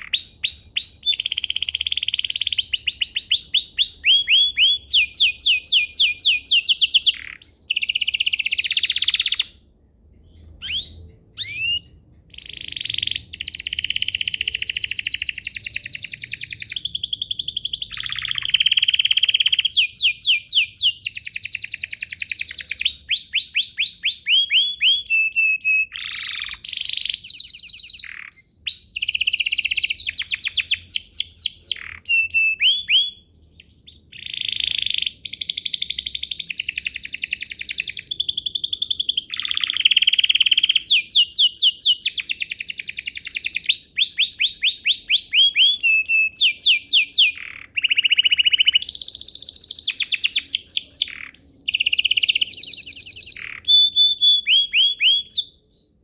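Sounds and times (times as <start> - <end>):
canary singing trills: 0.0 - 9.7, 10.3 - 56.0.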